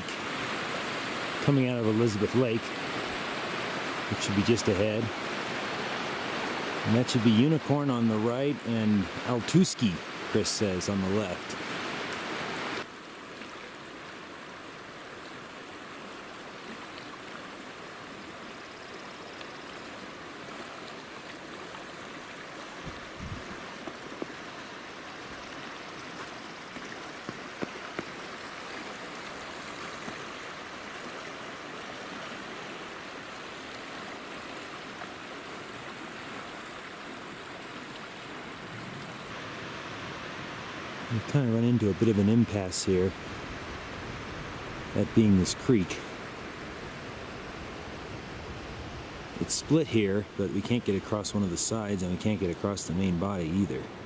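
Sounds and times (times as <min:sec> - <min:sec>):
creek flowing over stones: 0:00.0 - 0:54.0.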